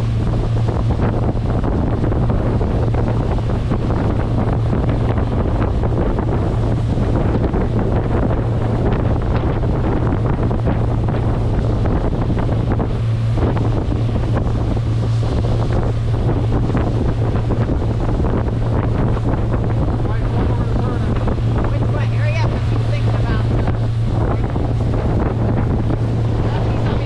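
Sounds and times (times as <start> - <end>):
churning wake: 0.0 - 27.0
outboard motor droning: 0.0 - 27.0
wind buffeting microphone: 0.0 - 27.0.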